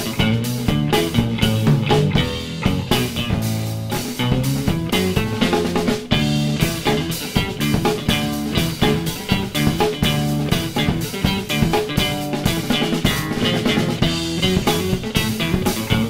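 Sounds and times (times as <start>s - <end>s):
electric guitar: 0.0s - 16.0s
steady drum beat: 0.0s - 16.0s.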